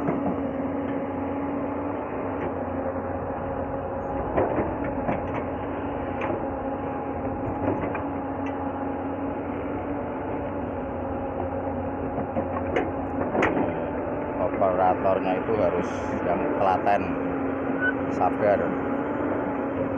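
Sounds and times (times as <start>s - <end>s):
excavator engine running: 0.0s - 19.9s.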